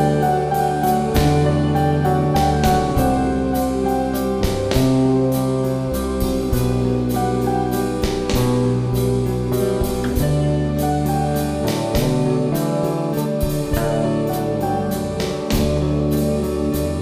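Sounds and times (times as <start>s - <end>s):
fretless bass: 0.0s - 17.0s
instrumental background music: 0.0s - 17.0s
steady drum beat: 0.0s - 17.0s.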